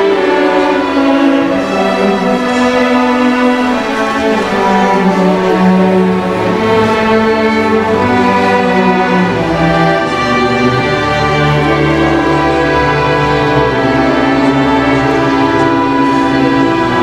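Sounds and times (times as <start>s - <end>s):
string orchestra holding chords: 0.0s - 17.0s.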